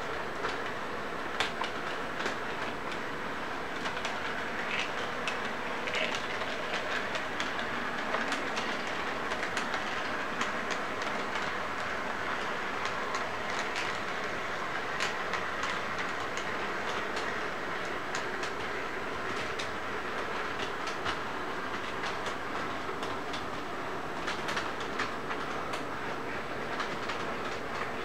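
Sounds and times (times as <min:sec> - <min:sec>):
model train whirring rumble: 0:00.0 - 0:28.0.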